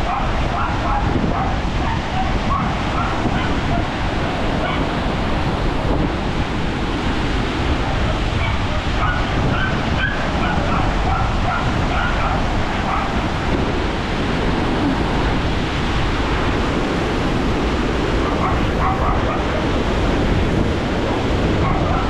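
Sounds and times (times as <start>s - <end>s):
rushing water from dam: 0.0s - 22.0s.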